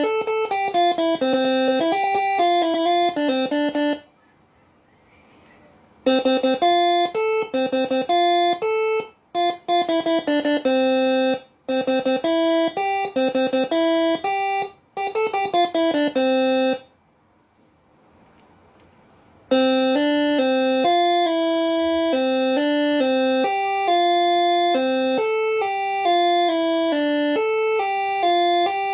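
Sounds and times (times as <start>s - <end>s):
air horn playing a tune: 0.0s - 4.1s, 6.0s - 16.9s, 19.5s - 28.9s.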